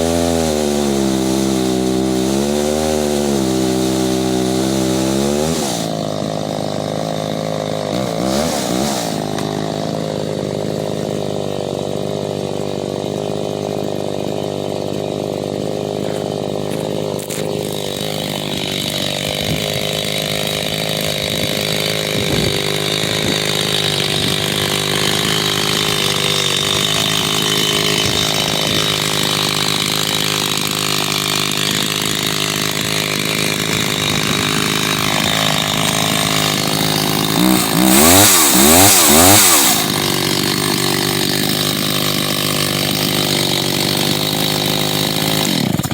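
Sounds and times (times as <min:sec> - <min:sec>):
chainsaw running at low speed: 0:00.0 - 0:45.9.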